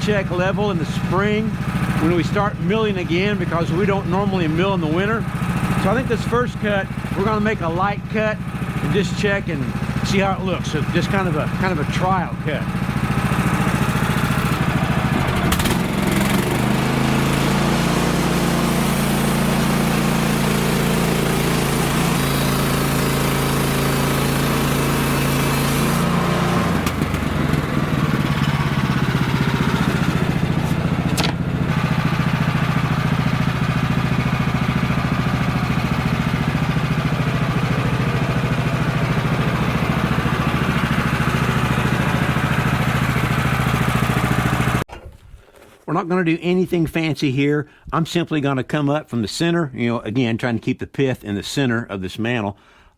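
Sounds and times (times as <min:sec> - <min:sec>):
small gasoline engine running: 0:00.0 - 0:44.9.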